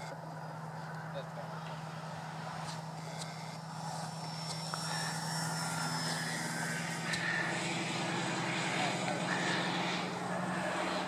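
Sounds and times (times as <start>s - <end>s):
model plane electric motor humming: 0.0s - 11.0s.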